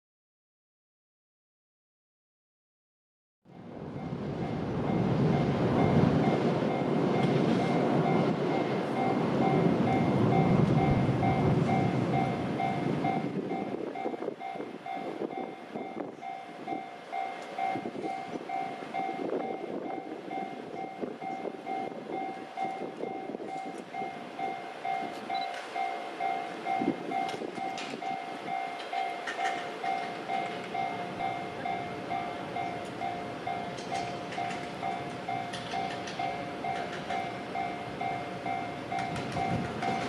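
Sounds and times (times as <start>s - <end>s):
level crossing warning bell: 3.5s - 40.0s.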